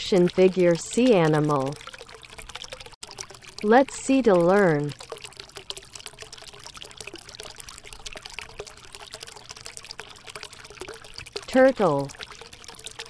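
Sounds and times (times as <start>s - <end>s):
water trickling over rocks: 0.0s - 13.0s.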